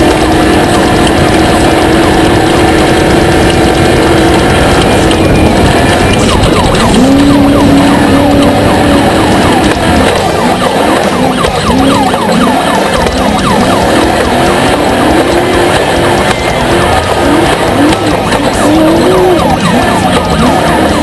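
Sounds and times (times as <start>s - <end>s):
engine rumble: 0.0s - 21.0s
siren wailing and yelping: 0.0s - 21.0s.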